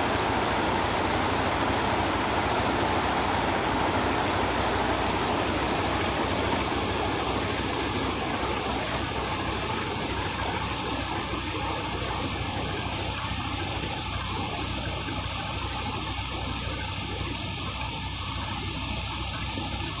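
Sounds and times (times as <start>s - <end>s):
floodwater rushing: 0.0s - 19.8s
low engine hum: 0.0s - 20.0s.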